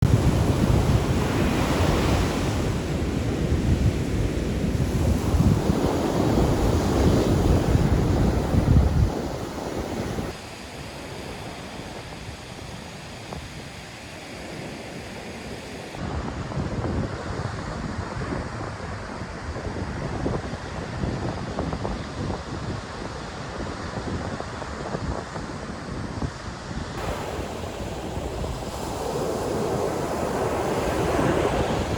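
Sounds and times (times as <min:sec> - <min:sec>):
waves washing onto beach: 0:00.0 - 0:31.9
wind buffeting microphone: 0:00.0 - 0:31.9.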